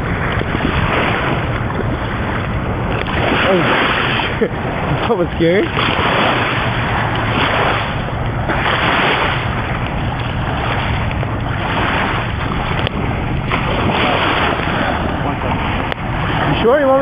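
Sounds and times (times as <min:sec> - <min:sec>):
waves washing onto beach: 0:00.0 - 0:17.0
wind blowing across microphone: 0:00.0 - 0:17.0.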